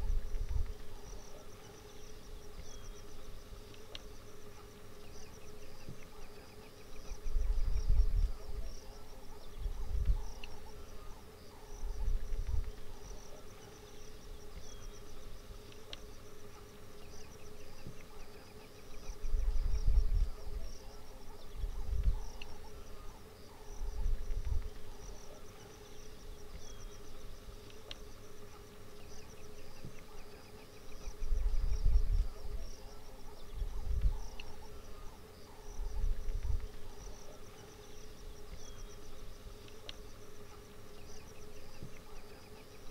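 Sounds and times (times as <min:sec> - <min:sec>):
faint constant hum: 0:00.0 - 0:42.9
insects chirring: 0:00.0 - 0:42.9.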